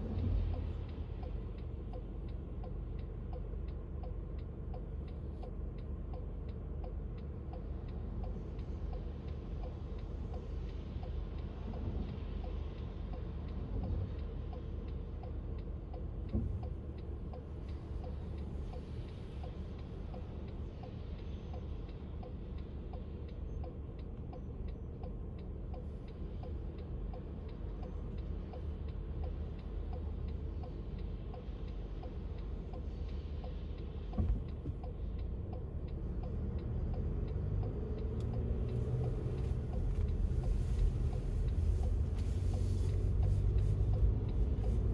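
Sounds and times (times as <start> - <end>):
road traffic rumble: 0.0 - 44.9
light ticking: 0.4 - 42.2.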